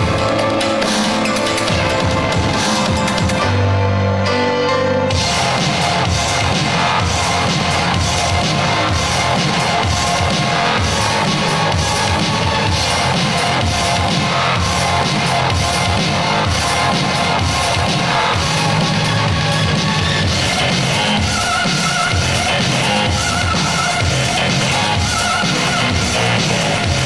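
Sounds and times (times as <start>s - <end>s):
dance music with driving beat: 0.0s - 3.7s, 5.1s - 27.0s.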